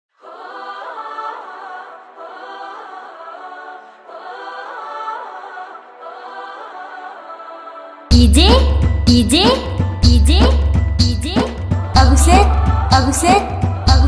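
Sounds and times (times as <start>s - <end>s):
a cappella choir phrase: 0.1s - 14.0s.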